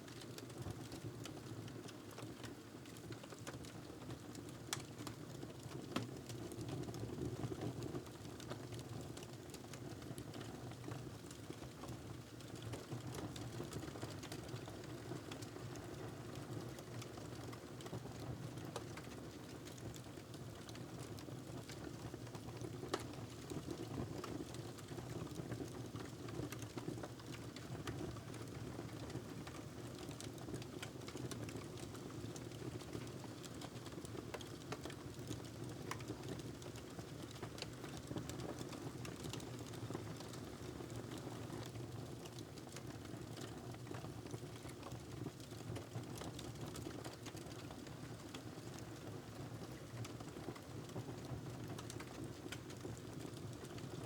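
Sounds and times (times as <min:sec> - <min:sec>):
wood fire crackling and popping: 0:08.2 - 0:54.0.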